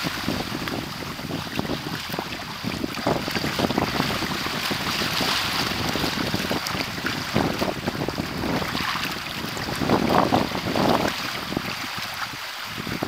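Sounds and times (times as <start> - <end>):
water rushing past hulls: 0.0 - 13.0
wind buffeting microphone: 0.0 - 13.0.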